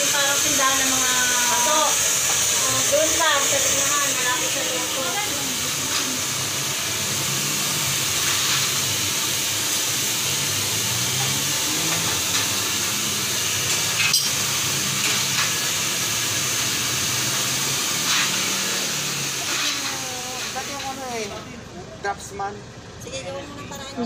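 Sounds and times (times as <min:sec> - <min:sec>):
steady hiss: 0:00.0 - 0:21.5.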